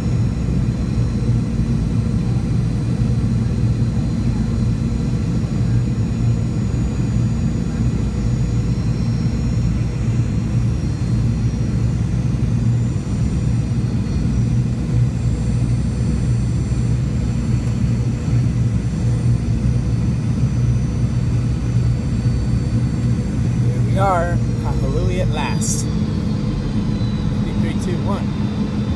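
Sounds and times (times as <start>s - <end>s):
airplane cabin drone: 0.0s - 28.9s.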